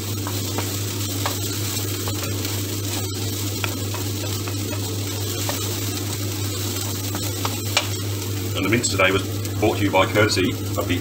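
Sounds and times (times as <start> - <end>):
low hum: 0.0 - 9.6
onions sizzling in oil: 0.0 - 11.0.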